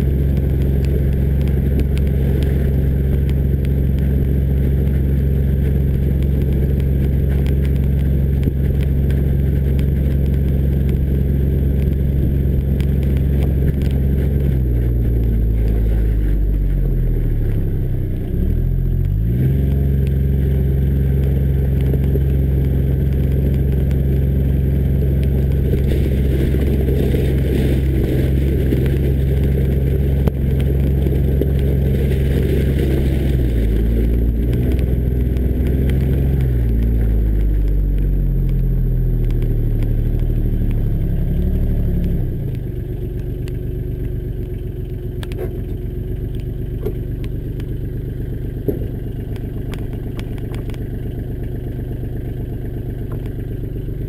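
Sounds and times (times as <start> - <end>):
diesel utility vehicle engine running: 0.0 - 54.0.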